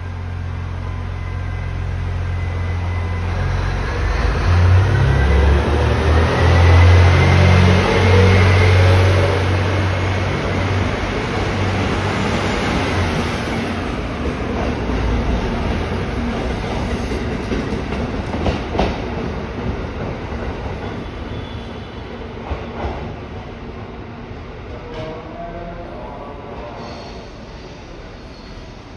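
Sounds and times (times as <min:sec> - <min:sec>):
diesel railcar engine: 0:00.0 - 0:25.4.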